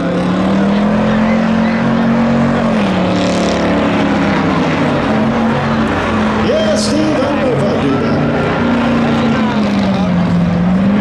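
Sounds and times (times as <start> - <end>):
pickup truck engines racing: 0.0 - 11.0.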